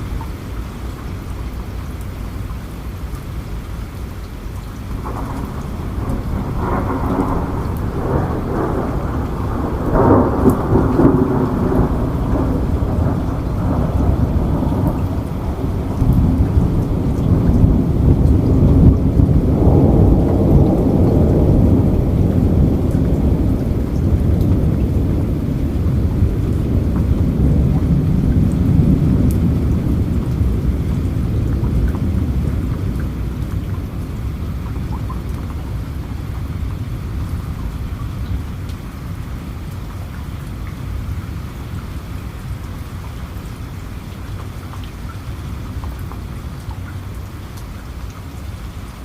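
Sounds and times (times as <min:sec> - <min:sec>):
rain falling steadily: 0:00.0 - 0:49.0
low rumble of thunder: 0:04.9 - 0:49.0.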